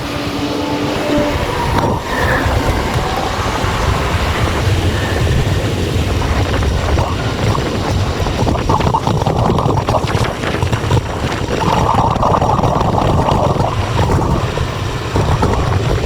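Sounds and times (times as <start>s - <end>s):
wind and road noise while cycling: 0.0s - 16.0s.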